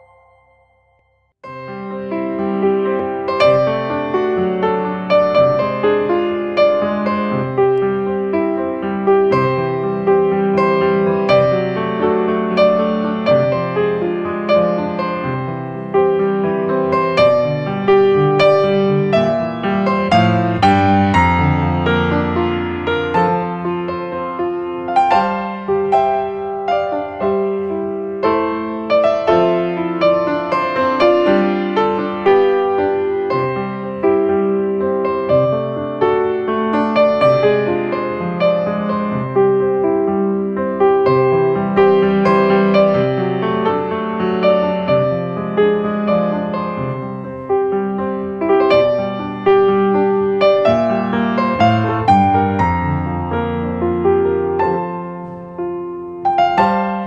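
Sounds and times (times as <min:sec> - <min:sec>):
slow piano melody: 0:00.0 - 0:57.0.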